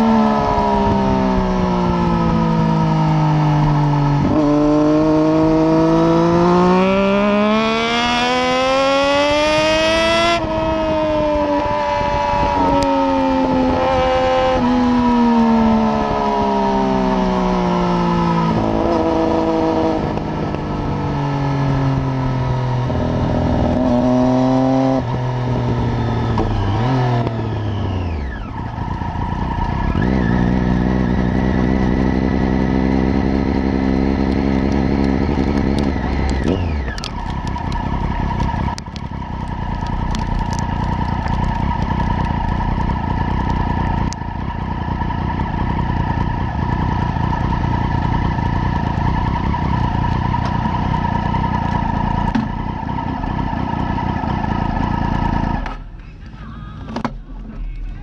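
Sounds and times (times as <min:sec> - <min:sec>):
motorcycle engine through gear changes: 0:00.0 - 0:56.0.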